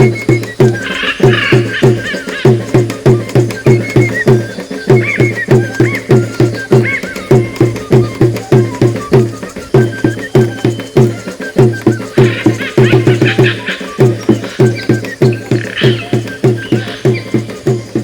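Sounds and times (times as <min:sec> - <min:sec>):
low drum beat: 0:00.0 - 0:18.0
whistle-like notes: 0:00.0 - 0:18.0.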